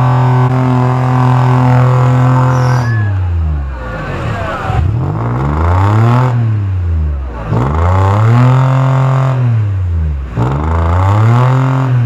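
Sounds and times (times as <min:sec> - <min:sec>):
buggy engine revving hard: 0:00.0 - 0:12.0.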